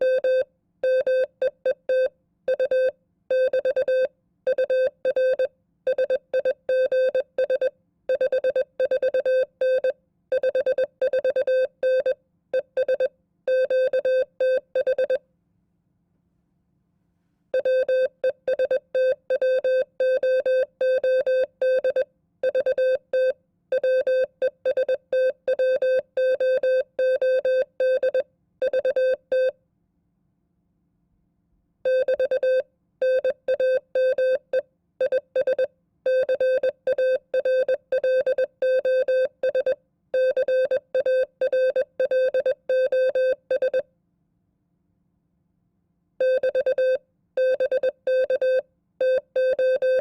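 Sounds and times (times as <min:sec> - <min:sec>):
morse code beeps: 0:00.0 - 0:15.2, 0:17.6 - 0:29.5, 0:31.9 - 0:43.8, 0:46.2 - 0:50.0.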